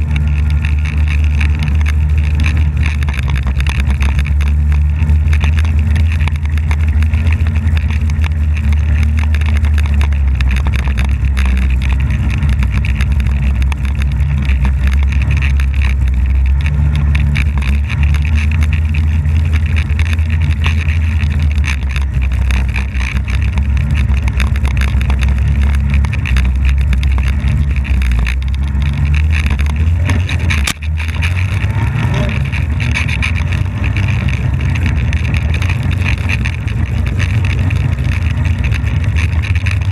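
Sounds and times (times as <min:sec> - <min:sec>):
snowmobile engine drone: 0:00.0 - 0:39.9.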